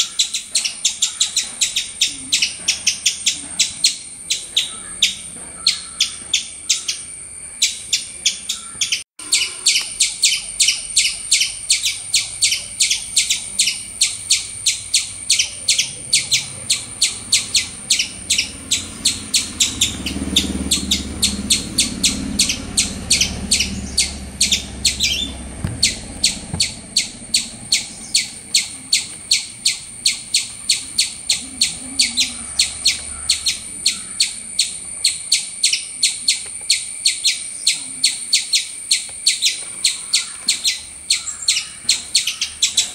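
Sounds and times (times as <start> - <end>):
high chirps: 0.0 - 42.9.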